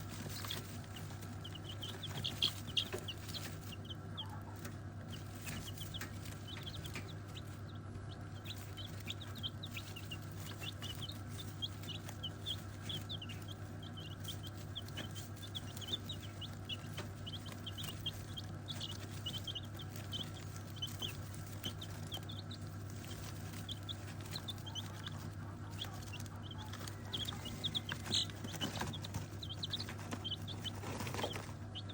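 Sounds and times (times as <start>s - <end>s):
chickens clucking and chirping: 0.0s - 31.9s
steady low hum: 0.0s - 31.9s.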